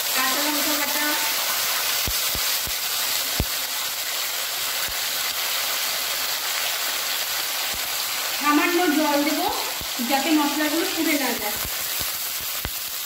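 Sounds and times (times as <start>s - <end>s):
spice paste sizzling in hot oil: 0.0s - 13.0s.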